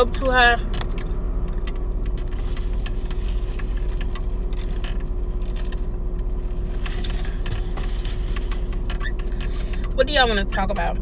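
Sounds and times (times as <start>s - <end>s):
car air blower and idling engine: 0.9s - 10.1s.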